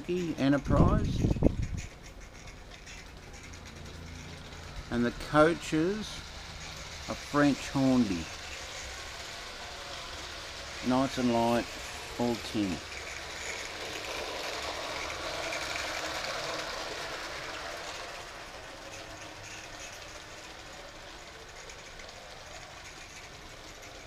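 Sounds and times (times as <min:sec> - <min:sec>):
toy train rattling on tin track: 0:00.0 - 0:24.0.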